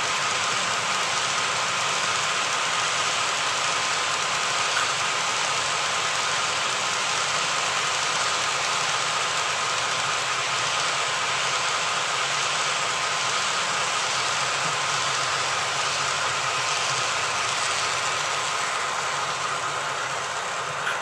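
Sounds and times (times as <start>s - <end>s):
idling diesel engine sound: 0.0s - 21.0s
model train wheels hissing on rail: 0.0s - 21.0s.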